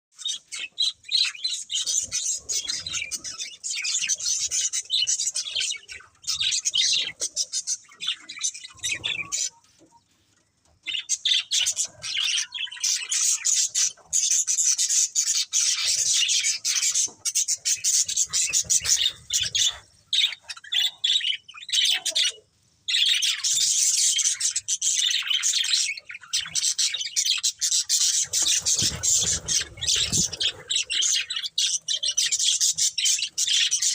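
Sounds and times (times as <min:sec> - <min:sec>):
budgerigars chirping: 0:00.2 - 0:09.6, 0:10.8 - 0:33.9.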